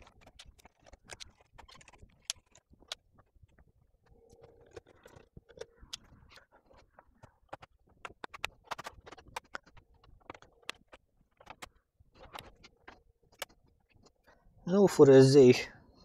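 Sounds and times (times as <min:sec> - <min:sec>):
plastic case scraping and knocking: 0:00.0 - 0:14.3.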